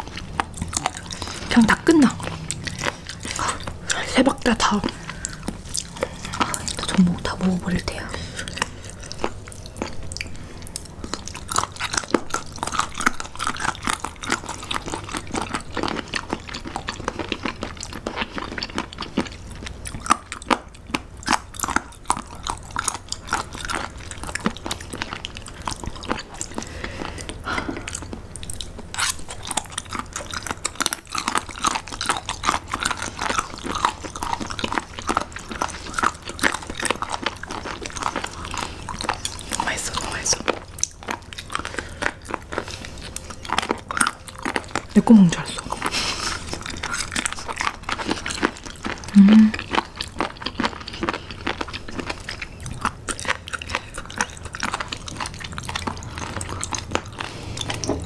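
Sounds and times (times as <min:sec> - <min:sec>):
wet mouth clicks: 0:00.0 - 0:18.9, 0:19.7 - 0:58.0
people chewing crunchy food: 0:00.0 - 0:58.0.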